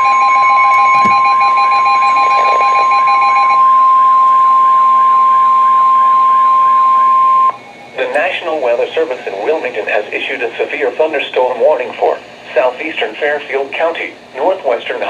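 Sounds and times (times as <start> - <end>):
loud steady warning tone: 0.0 - 15.0.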